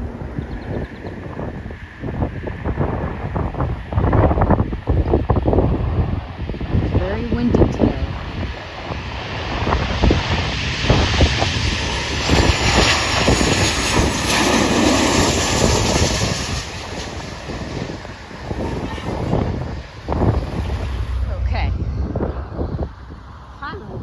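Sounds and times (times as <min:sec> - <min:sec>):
jet engines passing roar: 0:00.0 - 0:24.0
wind buffeting microphone: 0:00.0 - 0:24.0.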